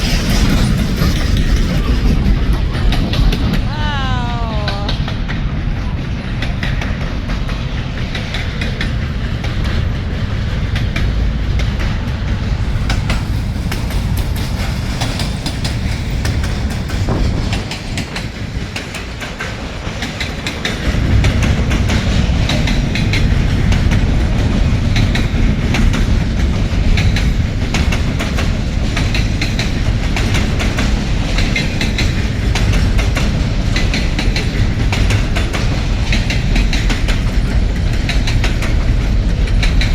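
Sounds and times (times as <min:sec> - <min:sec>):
freight train rumbling past: 0:00.0 - 0:39.9
wheels clicking over rail joints: 0:06.4 - 0:39.9.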